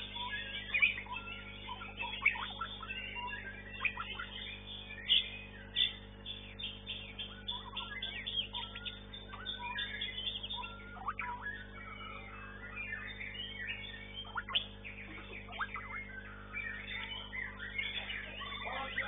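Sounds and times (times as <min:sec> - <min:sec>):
birds singing: 0:00.0 - 0:19.0
steady low hum: 0:00.0 - 0:19.0.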